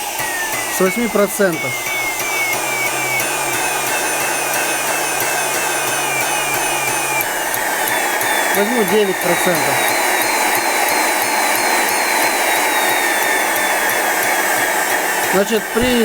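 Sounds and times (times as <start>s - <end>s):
vacuum cleaner motor pulsing: 0.0s - 16.0s.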